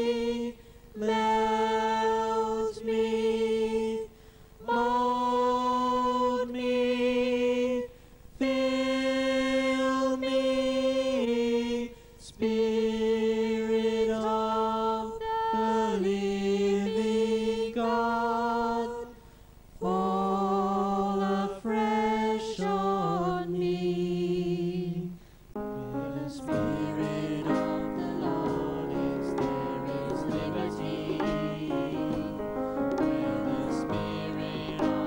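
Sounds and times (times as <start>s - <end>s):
congregation singing slow worship song: 0.0s - 35.0s.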